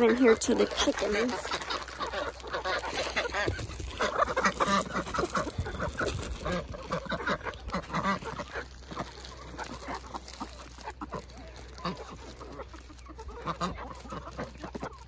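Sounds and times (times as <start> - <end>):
chickens clucking: 0.0 - 15.0
ducks quacking: 0.0 - 15.0.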